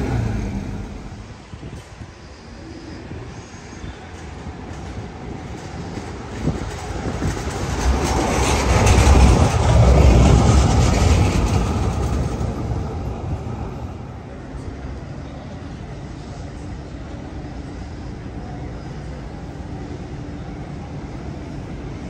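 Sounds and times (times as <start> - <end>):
tram rumbling past: 0.0 - 22.0
wheels hissing on rails: 0.0 - 22.0.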